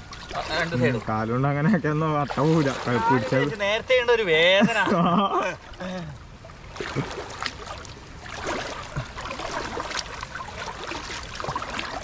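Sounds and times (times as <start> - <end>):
wading through water sloshing: 0.0 - 1.2, 2.1 - 3.7, 4.8 - 12.0.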